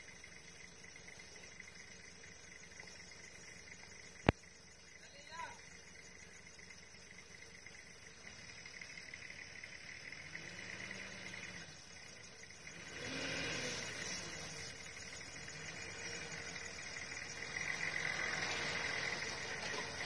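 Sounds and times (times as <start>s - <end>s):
distant truck engine: 0.0s - 20.0s
insect drone: 0.0s - 20.0s.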